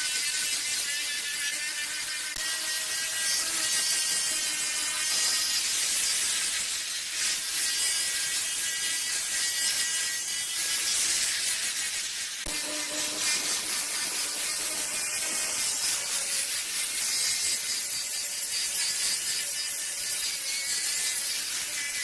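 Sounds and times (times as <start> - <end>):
abrasive scraping on rusty metal: 3.7 - 22.0.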